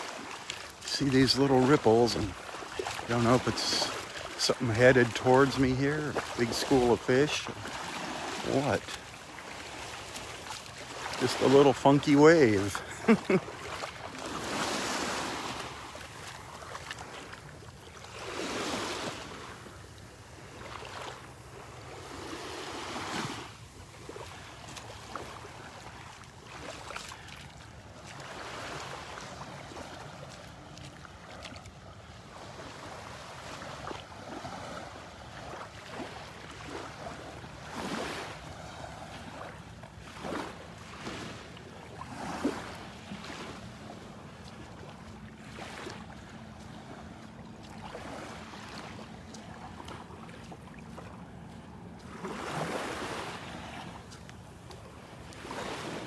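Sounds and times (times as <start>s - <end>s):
waves washing on beach: 0.0s - 56.0s.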